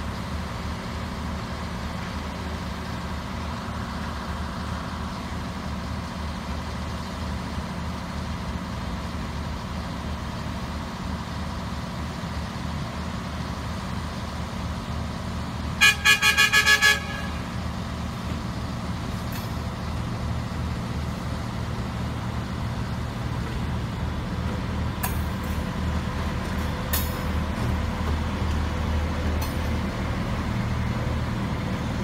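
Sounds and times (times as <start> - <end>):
railbus engine droning: 0.0 - 32.0.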